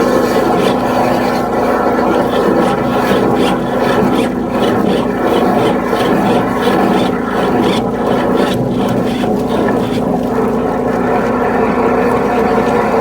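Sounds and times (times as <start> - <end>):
repeated scraping rub: 0.0 - 10.6
drain-cleaning machine running: 0.0 - 13.0.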